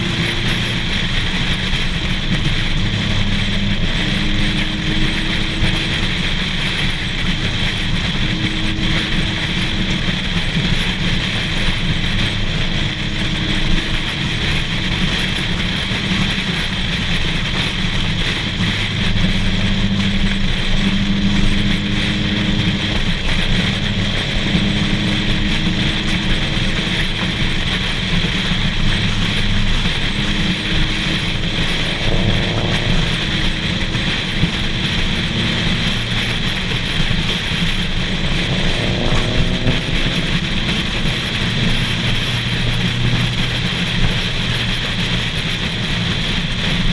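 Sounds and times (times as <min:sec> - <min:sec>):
car engine drone: 0:00.0 - 0:46.9
road noise: 0:00.0 - 0:46.9
wind noise on microphone: 0:00.0 - 0:46.9.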